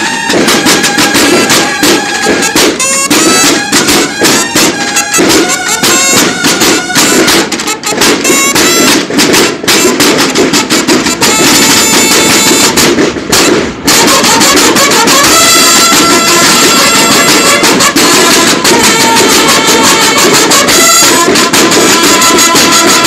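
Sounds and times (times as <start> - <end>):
bugles holding long notes: 0.0 - 23.0
snare drum rolls: 0.0 - 23.0.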